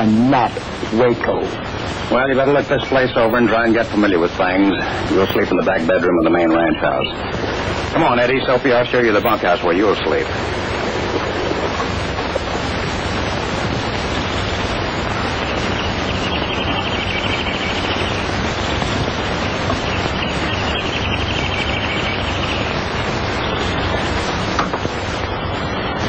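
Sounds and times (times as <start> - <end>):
film soundtrack hiss and rumble: 0.0 - 26.0.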